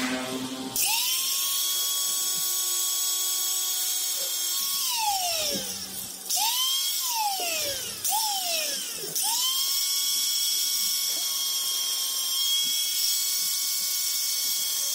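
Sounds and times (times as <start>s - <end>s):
angle grinder whining: 0.0s - 14.9s.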